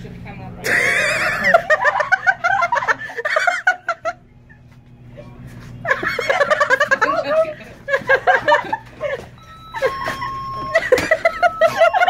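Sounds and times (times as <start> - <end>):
people giggling and laughing: 0.6 - 4.6, 5.8 - 12.0.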